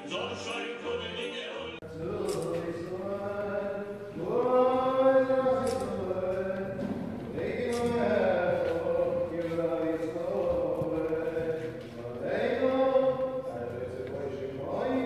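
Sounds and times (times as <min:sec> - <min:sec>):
recorded music: 0:00.0 - 0:15.0
men chanting a prayer: 0:01.8 - 0:15.0.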